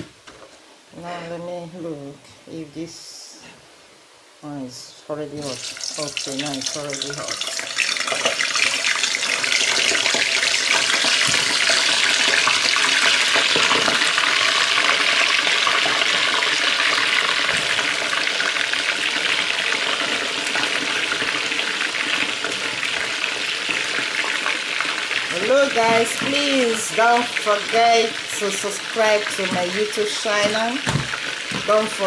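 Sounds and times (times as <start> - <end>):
food sizzling in hot oil: 5.4 - 32.0.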